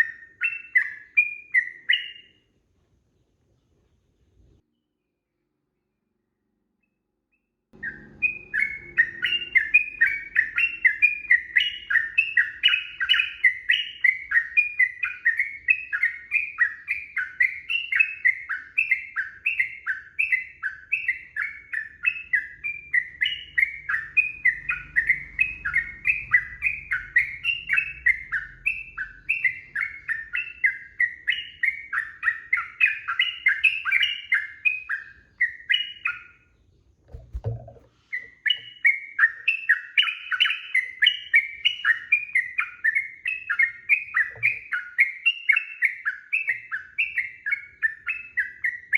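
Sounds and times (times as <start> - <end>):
bulbul singing whistled notes: 0.0 - 2.4, 7.8 - 48.9.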